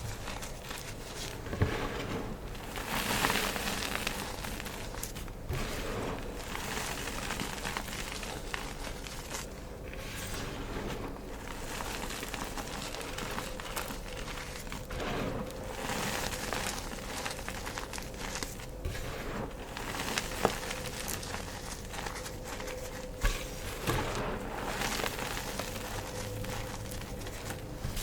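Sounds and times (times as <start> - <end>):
chalk crunching by hand: 0.0 - 28.0.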